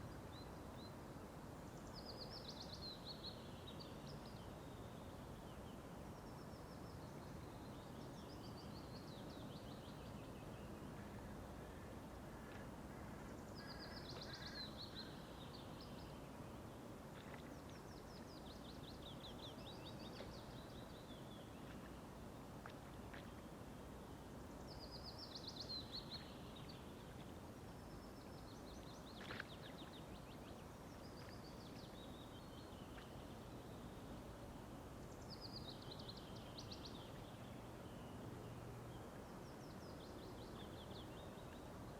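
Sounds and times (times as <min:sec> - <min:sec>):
low steady background noise: 0:00.0 - 0:41.9
songbird singing: 0:01.6 - 0:41.9.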